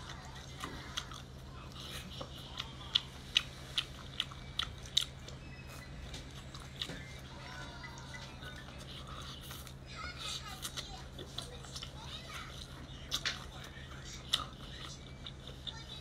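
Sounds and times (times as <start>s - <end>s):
wet chewing clicks: 0.0s - 16.0s.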